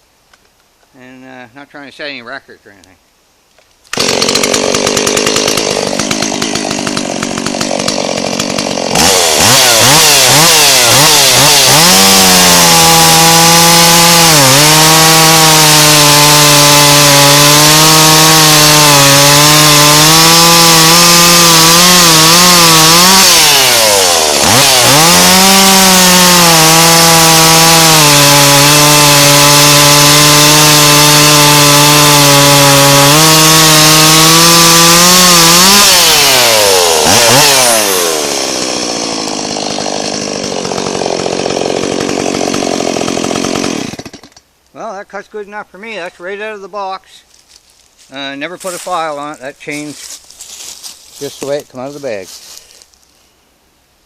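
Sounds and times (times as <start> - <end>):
chainsaw cutting log: 3.9 - 44.5, 48.6 - 52.8.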